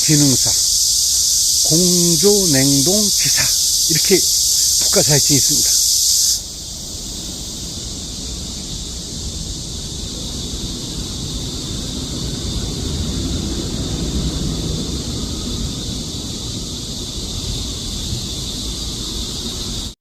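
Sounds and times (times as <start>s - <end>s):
faint high insect buzz: 0.0s - 19.9s
loud insect chorus: 0.0s - 20.0s.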